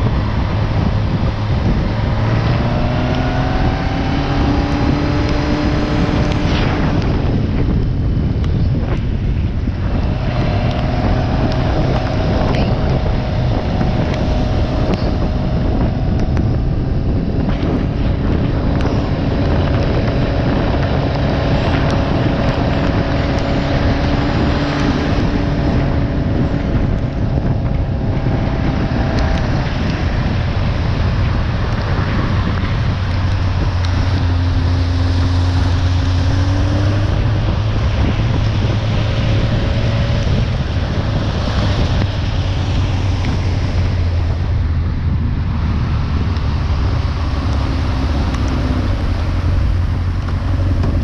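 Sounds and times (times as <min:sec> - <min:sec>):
motorcycle engine drone: 0:00.0 - 0:51.0
wind rush on microphone: 0:00.0 - 0:51.0.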